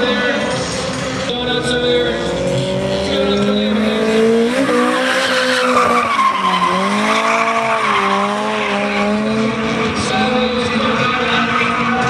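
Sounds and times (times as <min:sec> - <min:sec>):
car engine revving high: 0:01.2 - 0:12.0.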